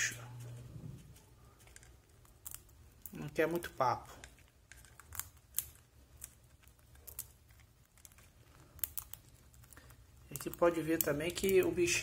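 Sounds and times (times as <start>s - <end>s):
beaks cracking seeds: 1.2s - 12.0s.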